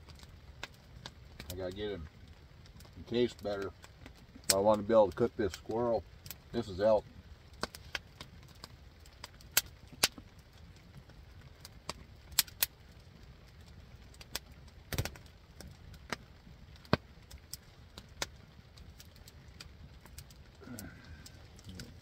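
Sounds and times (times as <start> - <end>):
low steady rumble: 0.0 - 22.0
wood fire crackling and popping: 0.0 - 22.0.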